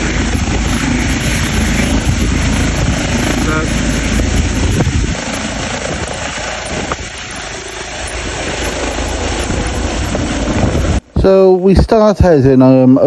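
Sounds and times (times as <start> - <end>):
helicopter rumbling: 0.0 - 13.0.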